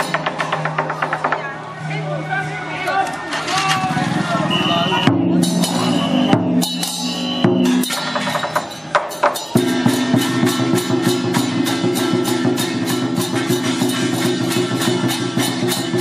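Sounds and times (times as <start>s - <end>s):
drums and percussion: 0.0s - 16.0s.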